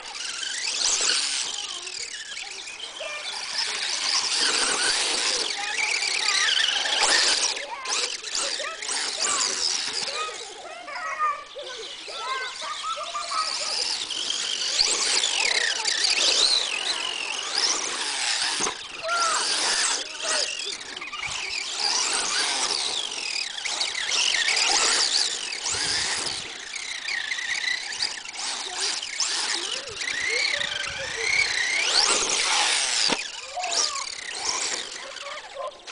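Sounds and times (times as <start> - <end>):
electric motor whining: 0.0 - 35.9.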